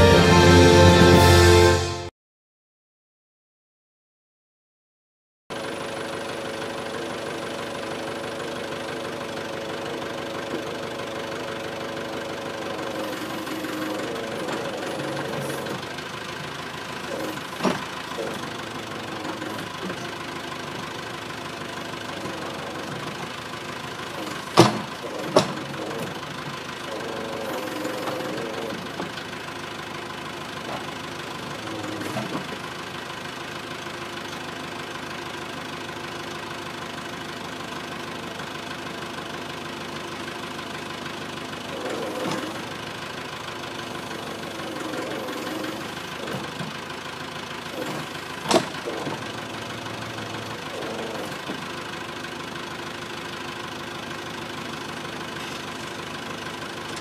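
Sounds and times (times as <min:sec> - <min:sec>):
diesel engine running: 0:00.0 - 0:02.0, 0:05.5 - 0:57.0.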